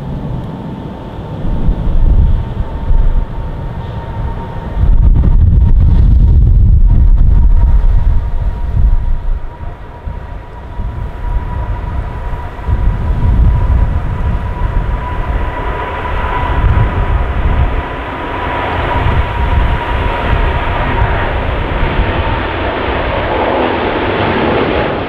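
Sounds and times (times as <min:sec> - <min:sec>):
jet engines at take-off: 0:00.0 - 0:25.0
wind buffeting microphone: 0:00.0 - 0:25.0.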